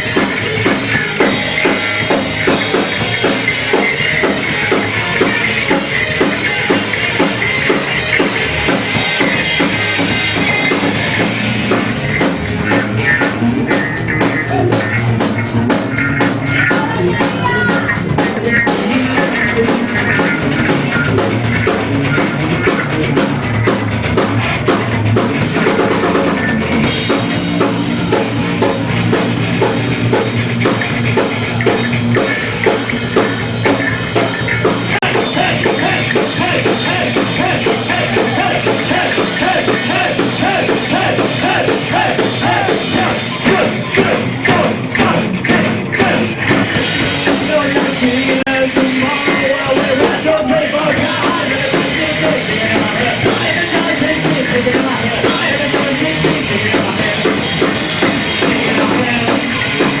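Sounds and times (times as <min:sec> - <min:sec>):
drum kit: 0:00.0 - 1:00.0
rock band playing live: 0:00.0 - 1:00.0.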